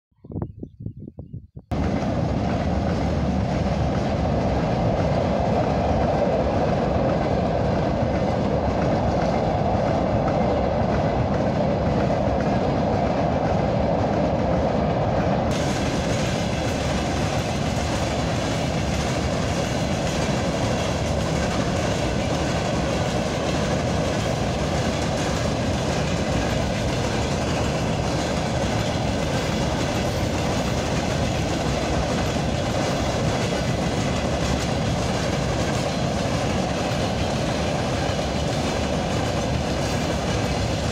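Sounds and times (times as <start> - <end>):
train wheels rolling over rails: 1.7 - 40.9.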